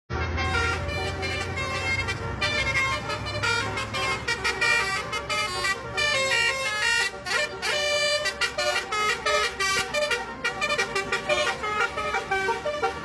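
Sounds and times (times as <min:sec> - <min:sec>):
bus engine humming: 0:00.1 - 0:13.0
multi-note air horn melody: 0:00.1 - 0:13.0.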